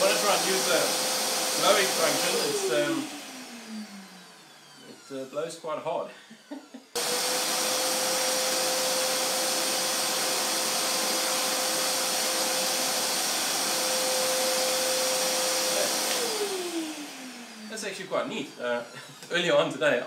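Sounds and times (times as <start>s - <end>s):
vacuum blower motor whine: 0.0s - 19.9s.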